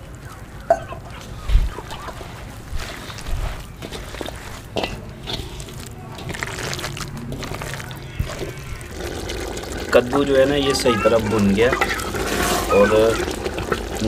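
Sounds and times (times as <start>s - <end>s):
hand mixing wet batter: 0.0s - 14.0s.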